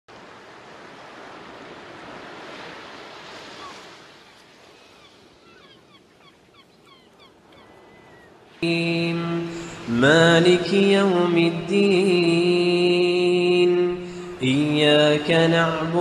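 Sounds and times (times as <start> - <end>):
ocean waves on shore: 0.1 - 16.0.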